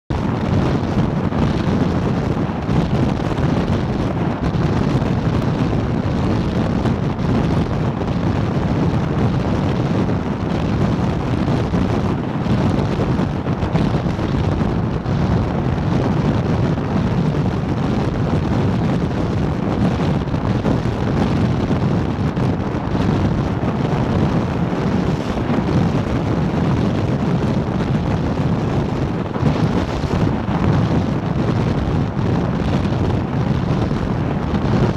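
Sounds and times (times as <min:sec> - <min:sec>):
powerboat running noise: 0:00.1 - 0:34.9
wind buffeting microphone: 0:00.1 - 0:34.9.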